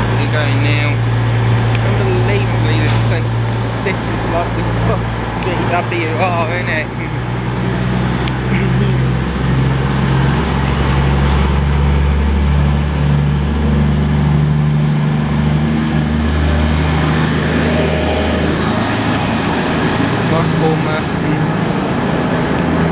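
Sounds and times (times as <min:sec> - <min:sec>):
diesel train engine drone: 0:00.0 - 0:22.9.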